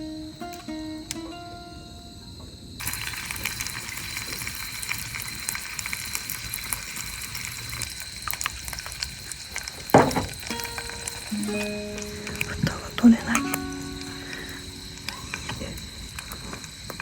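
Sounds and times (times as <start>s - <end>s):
food sizzling in a pan: 2.8s - 17.0s.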